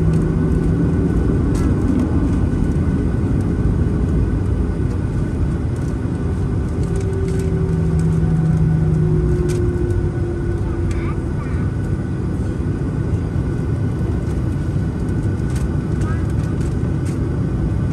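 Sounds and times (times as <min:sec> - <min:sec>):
airflow in cabin: 0:00.0 - 0:17.9
jet engine rumble: 0:00.0 - 0:17.9
low hum: 0:00.0 - 0:17.9.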